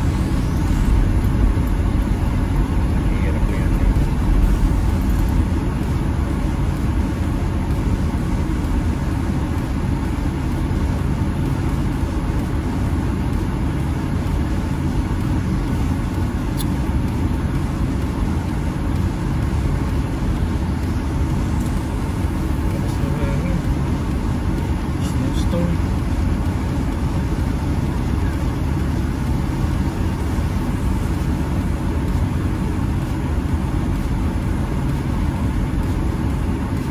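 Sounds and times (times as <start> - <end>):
car cabin engine and road rumble: 0.0 - 36.9.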